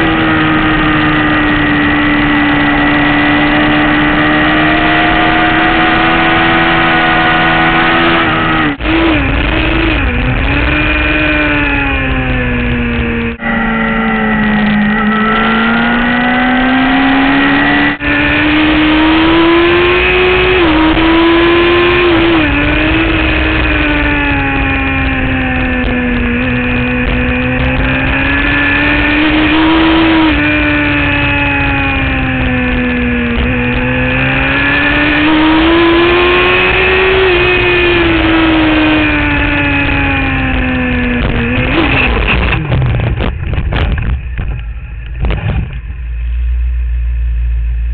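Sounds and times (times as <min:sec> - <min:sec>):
motorcycle engine revving: 0:00.0 - 0:46.1.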